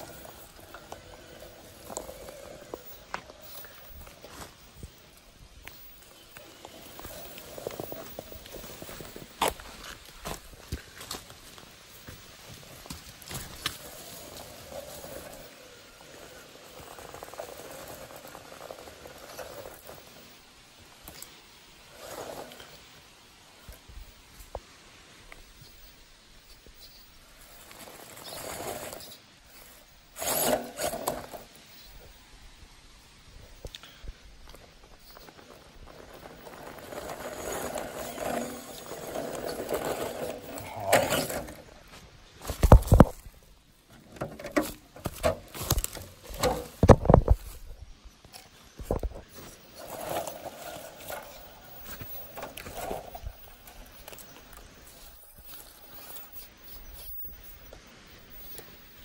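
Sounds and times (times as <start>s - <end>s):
rc car motor and gears whirring: 0.0s - 24.6s, 25.3s - 32.2s, 33.6s - 59.0s.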